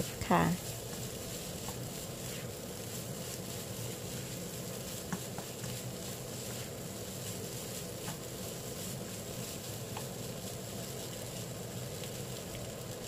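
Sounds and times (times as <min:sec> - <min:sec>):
spatula stirring rice in a wok: 0:00.0 - 0:13.0
steady background hiss: 0:00.0 - 0:13.0.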